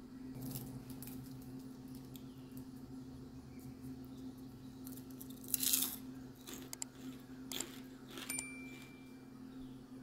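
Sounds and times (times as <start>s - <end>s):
steady low hum: 0.0s - 10.0s
caramel corn crunching: 0.4s - 9.1s.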